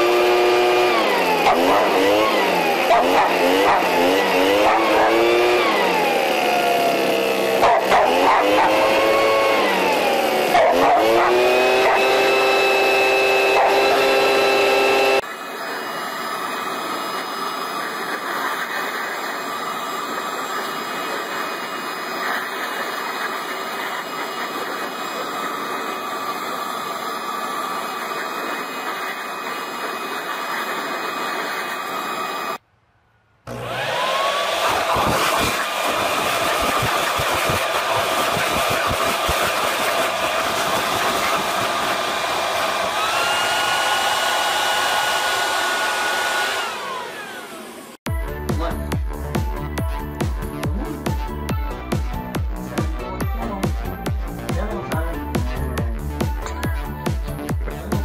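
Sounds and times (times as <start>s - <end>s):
leaf blower motor whine: 0.0s - 32.6s, 33.4s - 58.0s.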